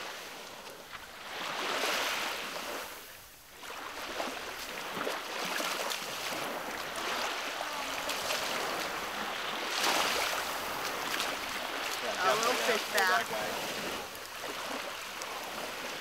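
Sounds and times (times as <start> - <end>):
small waves lapping on shore: 0.0 - 16.0.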